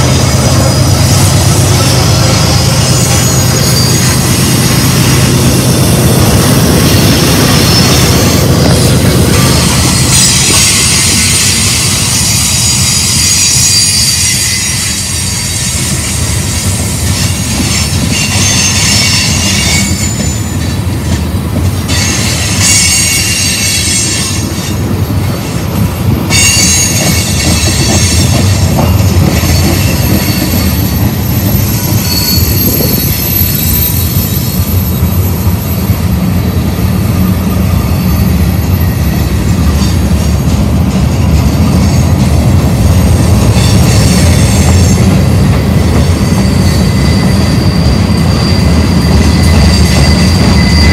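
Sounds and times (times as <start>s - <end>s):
freight train rumbling past: 0.0s - 50.9s
wheel flanges squealing: 0.0s - 50.9s.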